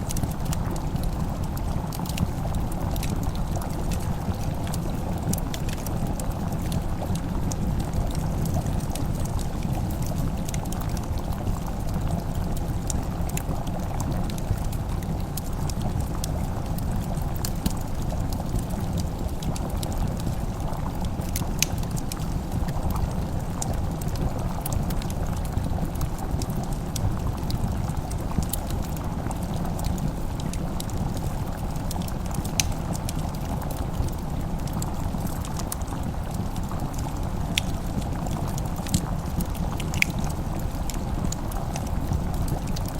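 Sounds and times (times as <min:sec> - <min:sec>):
low fire rumble: 0:00.0 - 0:42.9
wood fire snapping and popping: 0:00.0 - 0:42.9.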